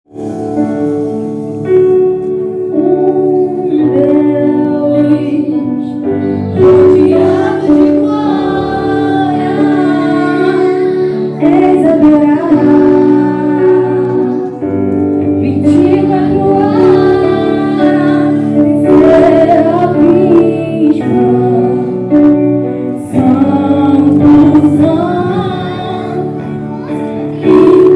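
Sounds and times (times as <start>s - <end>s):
gospel band playing: 0.1s - 27.9s
sustained keyboard chords: 0.1s - 27.9s
women singing: 2.8s - 14.6s, 15.4s - 22.4s, 23.0s - 27.9s.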